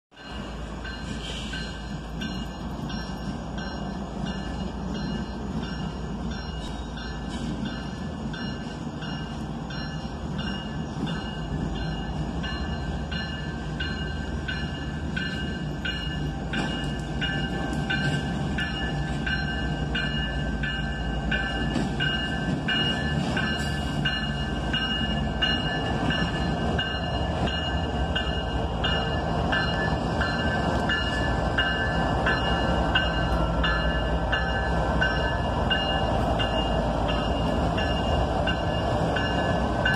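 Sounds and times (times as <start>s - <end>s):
crossing bell ringing: 0.1s - 39.9s
freight train rumble: 0.1s - 39.9s.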